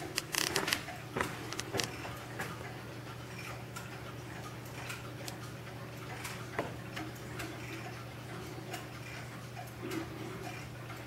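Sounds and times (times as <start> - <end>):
wall clocks ticking: 0.0 - 11.0.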